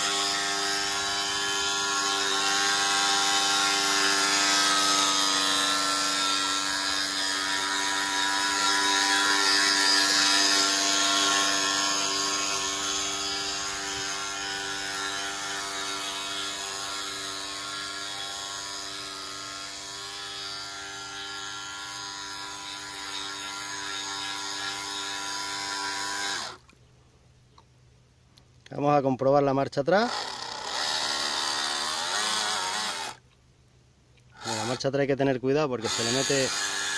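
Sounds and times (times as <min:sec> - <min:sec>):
small electric motor whining: 0:00.0 - 0:26.6, 0:30.0 - 0:33.2, 0:34.3 - 0:34.8, 0:35.8 - 0:36.9.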